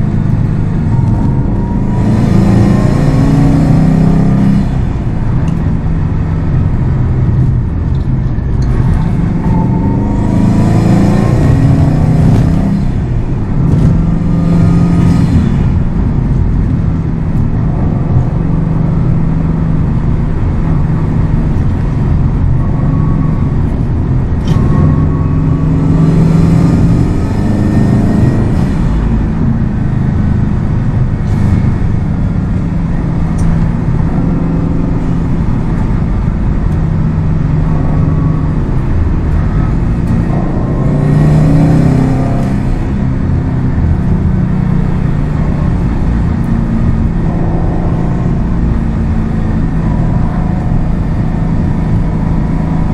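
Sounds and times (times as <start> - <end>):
car engine accelerating: 0.0 - 52.9
road noise: 0.0 - 52.9.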